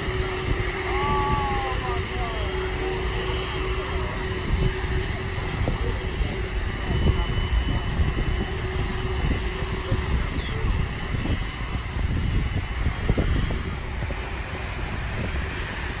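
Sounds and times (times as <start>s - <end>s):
jet engines whining at low power: 0.0s - 16.0s.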